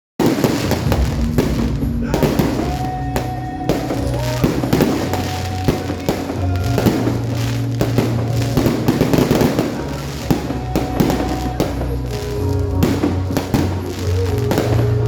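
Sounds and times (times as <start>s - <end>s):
fireworks bangs and crackles: 0.2s - 15.0s
music with steady bass: 0.2s - 15.0s.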